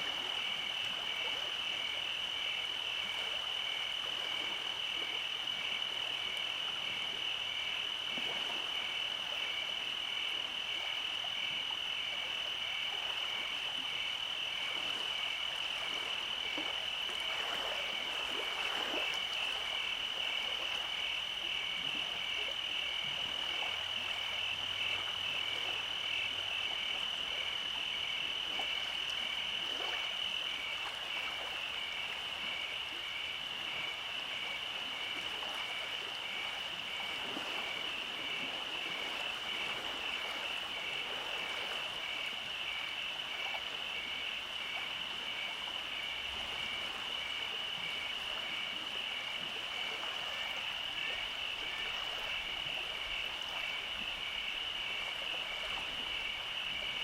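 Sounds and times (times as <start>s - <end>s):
insects trilling: 0.0s - 57.0s
frogs trilling: 0.2s - 57.0s.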